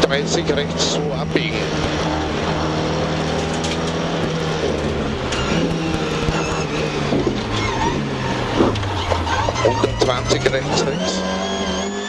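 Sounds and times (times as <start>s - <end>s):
car engine running hard: 0.0s - 12.0s
road and tyre noise: 0.0s - 12.0s.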